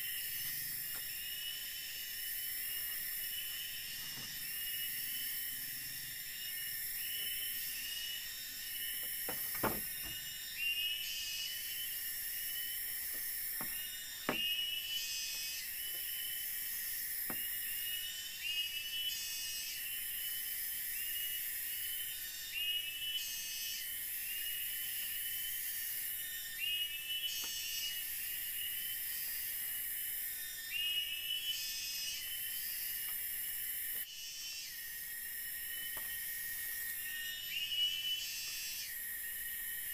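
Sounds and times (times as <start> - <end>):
insects shrilling: 0.0 - 39.9.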